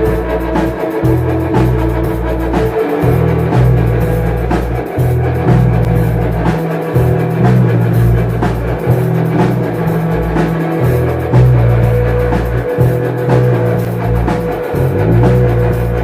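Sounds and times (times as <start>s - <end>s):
drum kit beating: 0.0s - 16.0s
guitar: 0.0s - 16.0s
heavy bass line: 0.0s - 16.0s.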